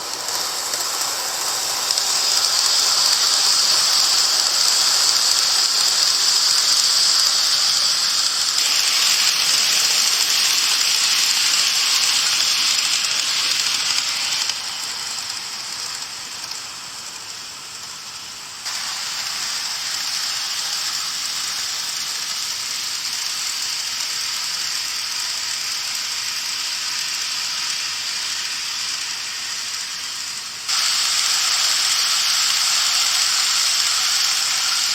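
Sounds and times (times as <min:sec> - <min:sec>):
model train whirring hiss: 0:00.0 - 0:34.9.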